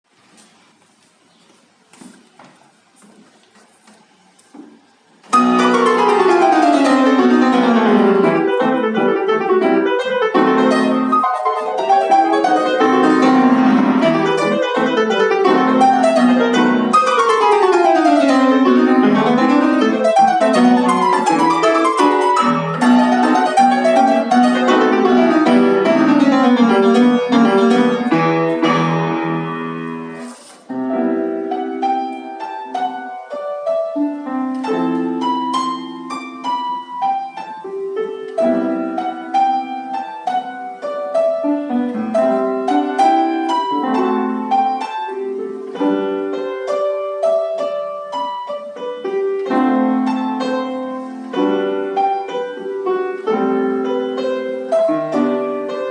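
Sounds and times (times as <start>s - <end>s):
solo piano music: 4.8s - 55.9s.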